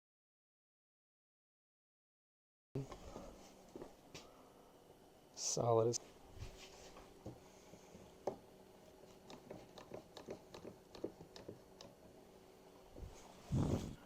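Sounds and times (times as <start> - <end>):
faint room hum: 2.8 - 14.0.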